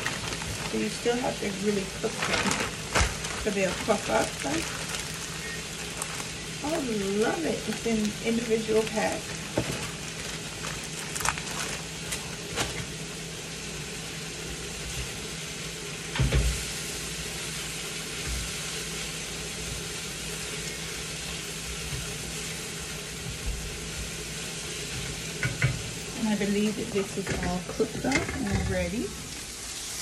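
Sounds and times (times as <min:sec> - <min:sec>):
meat sizzling in a frying pan: 0:00.0 - 0:30.0.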